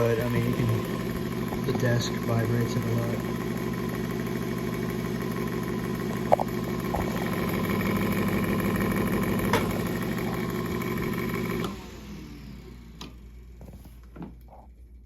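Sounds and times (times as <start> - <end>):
table fan motor hum: 0.0 - 13.0.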